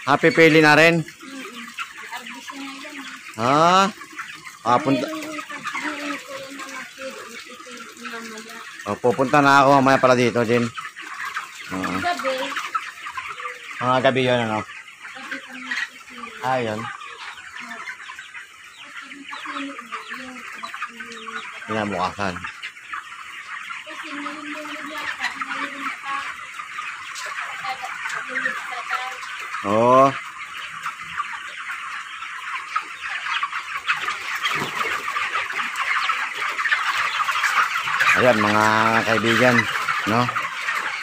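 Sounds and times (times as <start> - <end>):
chicken clucks: 0.0 - 41.0
chicks peeping and chirping: 0.0 - 41.0.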